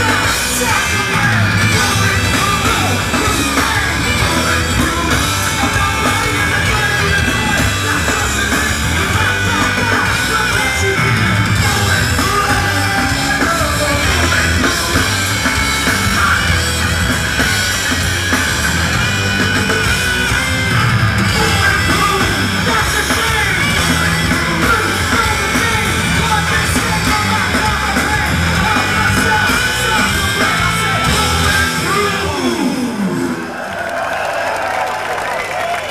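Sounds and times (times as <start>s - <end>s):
electric guitar: 0.0s - 33.8s
drums: 0.0s - 35.9s
shouted lead vocal: 0.0s - 35.9s.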